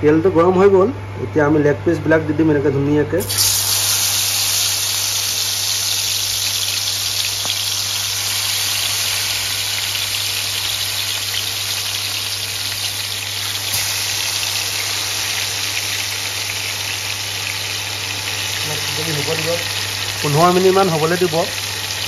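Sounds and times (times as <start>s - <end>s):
chicken sizzling in oil: 3.2s - 22.0s.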